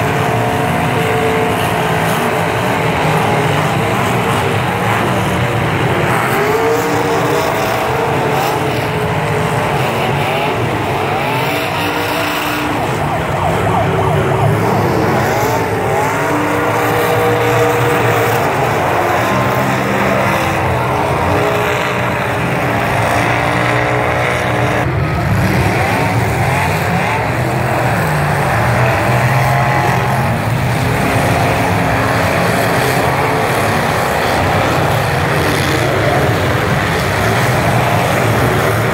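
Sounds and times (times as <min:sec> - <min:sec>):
truck engines revving: 0:00.0 - 0:38.9.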